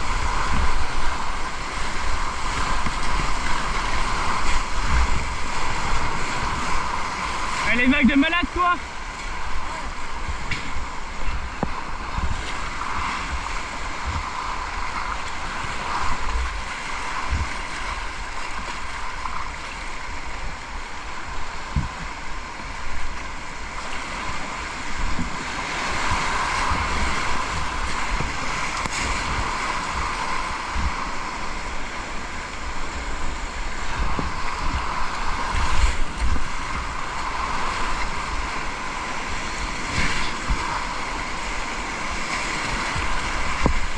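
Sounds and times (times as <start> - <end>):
river water rushing: 0.0 - 43.9
wind buffeting microphone: 0.0 - 43.9.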